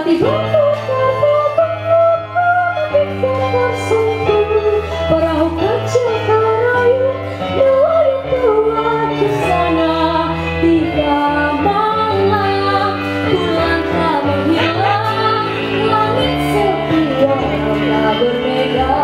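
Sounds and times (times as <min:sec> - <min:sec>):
girl singing into microphone: 0:00.0 - 0:19.0
instrumental accompaniment with bass: 0:00.0 - 0:19.0.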